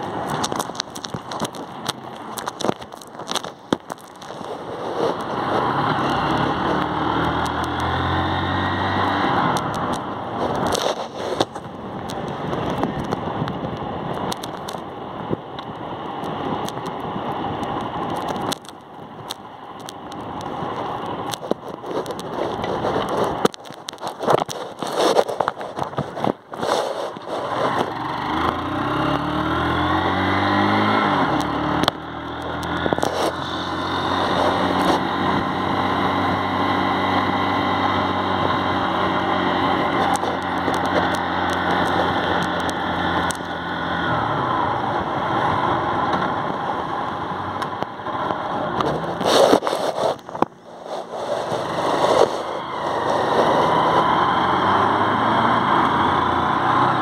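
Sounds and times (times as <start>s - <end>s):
motorcycle engine: 0.0s - 14.8s, 15.5s - 57.0s.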